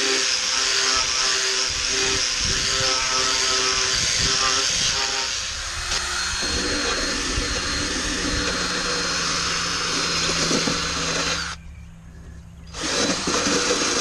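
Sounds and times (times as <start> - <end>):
power tool wire brushing metal: 0.0 - 11.6, 12.7 - 14.0.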